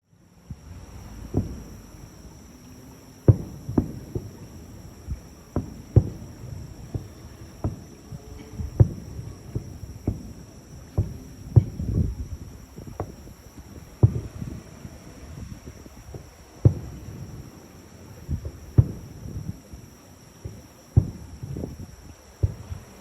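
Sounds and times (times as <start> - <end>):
firework shells booming: 0.4 - 23.0.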